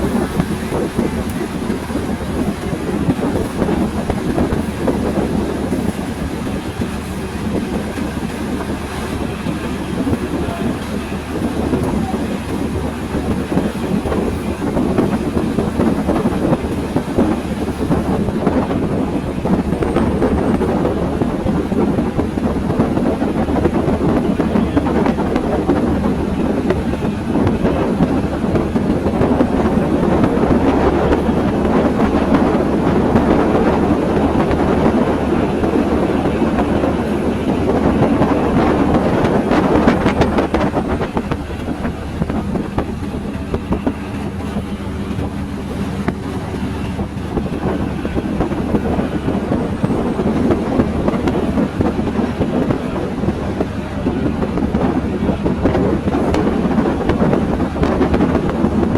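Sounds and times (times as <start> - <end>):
train carriage rumble and rattle: 0.0 - 58.9.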